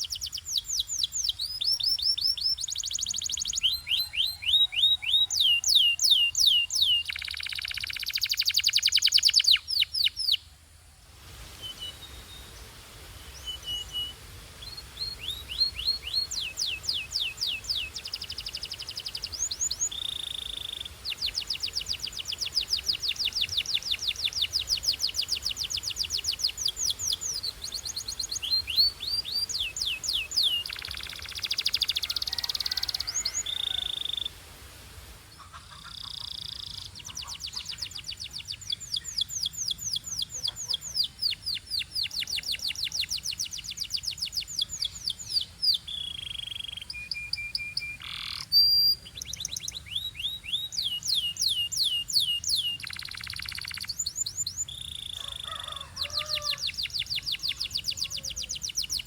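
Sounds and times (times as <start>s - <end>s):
canary singing: 0.0s - 10.4s, 13.3s - 34.4s, 35.4s - 59.0s.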